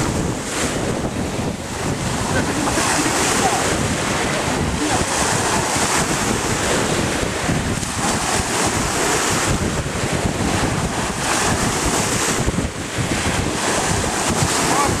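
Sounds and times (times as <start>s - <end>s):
small waves breaking on shore: 0.0s - 15.0s
wind buffeting microphone: 0.0s - 15.0s.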